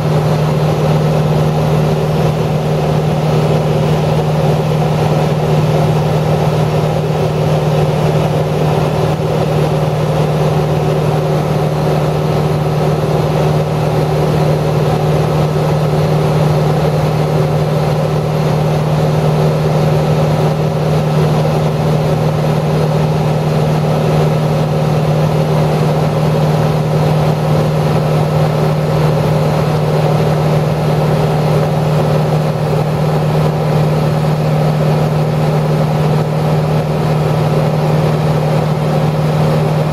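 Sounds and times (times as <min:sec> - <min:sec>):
loud machine hum: 0:00.0 - 0:39.9.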